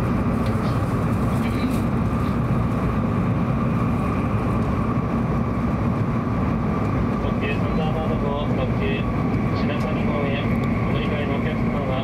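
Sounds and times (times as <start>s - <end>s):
faint constant whine: 0.0s - 12.0s.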